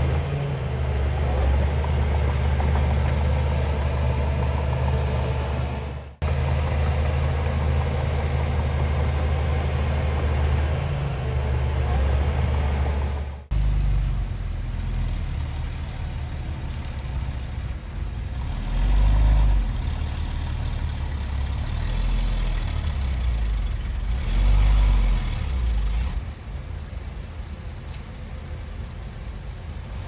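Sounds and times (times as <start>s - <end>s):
heavy diesel engine revving: 0.0s - 26.3s.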